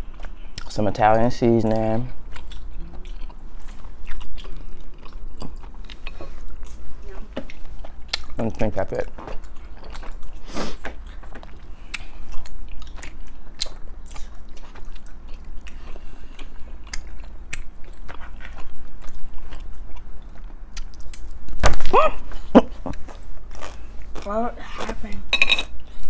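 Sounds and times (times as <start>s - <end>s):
people chewing food: 0.0s - 26.0s
steady low hum: 0.0s - 26.0s.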